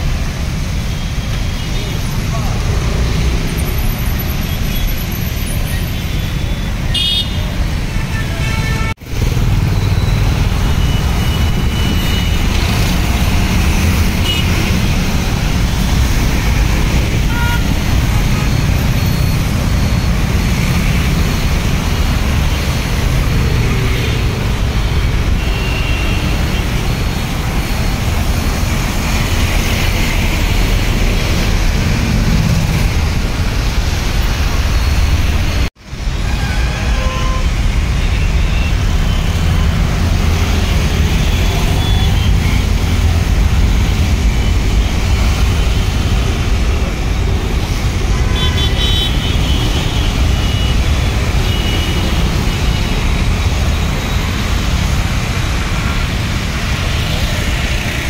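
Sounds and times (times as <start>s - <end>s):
traffic rumble on wet road: 0.0s - 58.0s.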